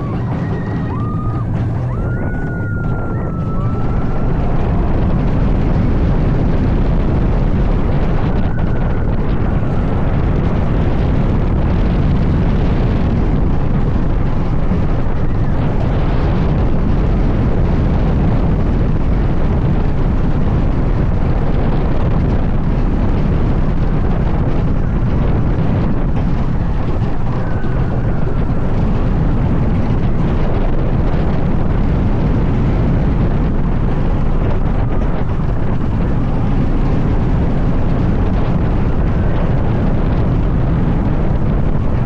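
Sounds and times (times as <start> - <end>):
roller coaster train rumbling: 0.0 - 42.0
wind rushing on microphone: 0.0 - 42.0.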